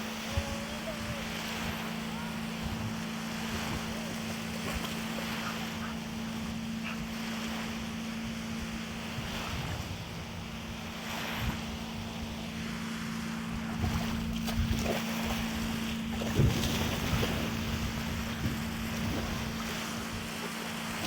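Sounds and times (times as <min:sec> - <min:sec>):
small waves lapping: 0:00.0 - 0:21.0
steady low hum: 0:00.0 - 0:21.0
wind on microphone: 0:00.0 - 0:21.0.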